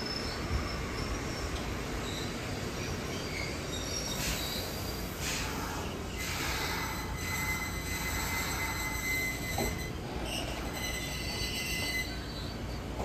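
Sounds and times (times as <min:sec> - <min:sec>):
train brake squeal: 0:00.0 - 0:13.0
train cars rumbling: 0:00.0 - 0:13.0.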